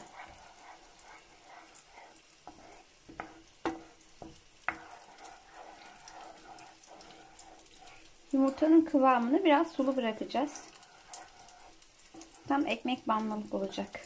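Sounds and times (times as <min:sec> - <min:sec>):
food sizzling in a frying pan: 0:00.0 - 0:14.0
spatula knocking and scraping pan: 0:00.0 - 0:14.0.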